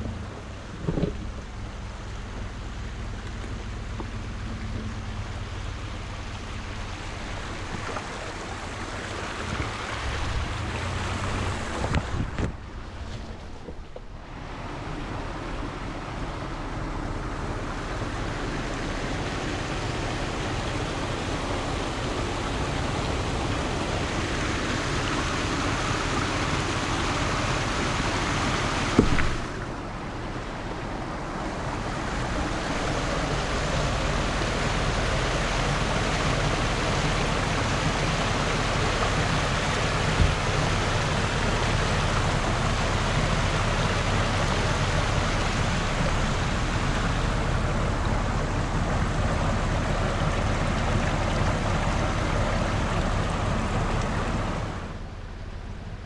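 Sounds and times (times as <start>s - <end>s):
creek cascading over rocks: 0.0s - 56.0s.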